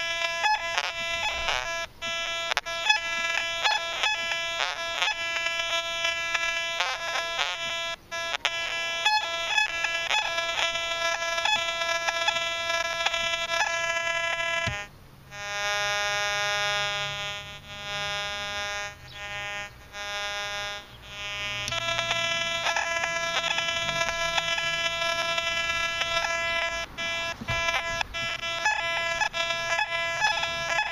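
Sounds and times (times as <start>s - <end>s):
metal detector buzzy tone: 0.0s - 30.9s
metal detector pinpoint tone: 0.0s - 30.9s.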